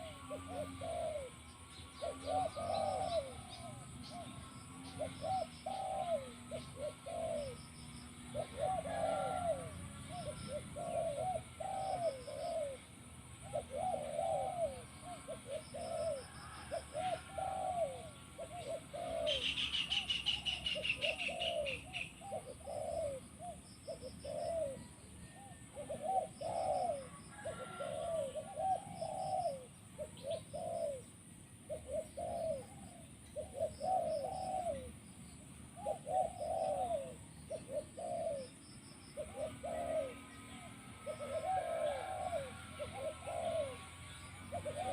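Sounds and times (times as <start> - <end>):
bird chirping trill: 0.0 - 44.9
doves cooing: 0.0 - 44.9.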